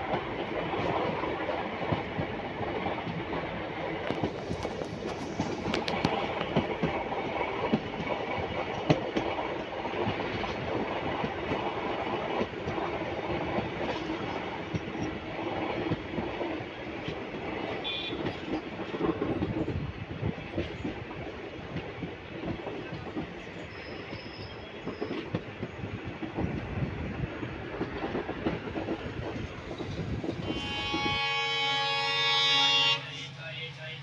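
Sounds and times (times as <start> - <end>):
train wheels clattering on rails: 0.0 - 32.8.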